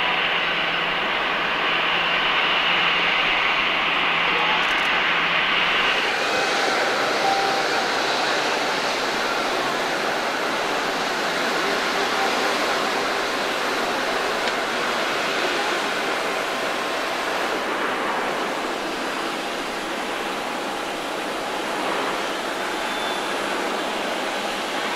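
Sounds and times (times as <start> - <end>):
jet engines rushing: 0.0 - 24.9.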